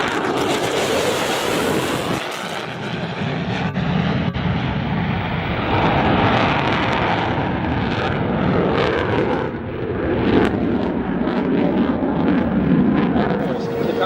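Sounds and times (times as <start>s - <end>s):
jet engine roar: 0.0s - 14.0s
wind buffeting microphone: 0.0s - 14.0s.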